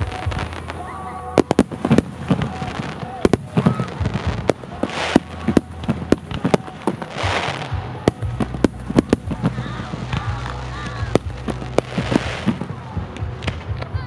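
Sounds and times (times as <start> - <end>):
fireworks bangs: 0.0 - 14.0
fireworks hiss: 0.0 - 14.0.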